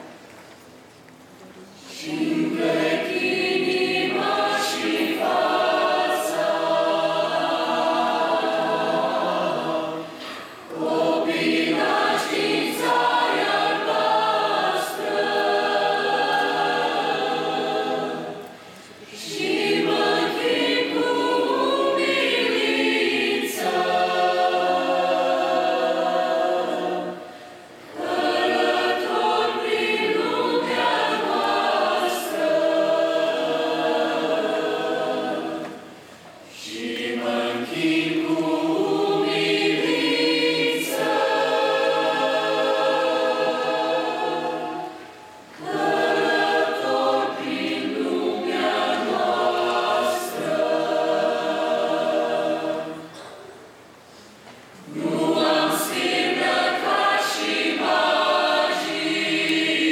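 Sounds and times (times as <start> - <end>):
mixed choir singing: 1.8 - 53.5, 54.8 - 59.9.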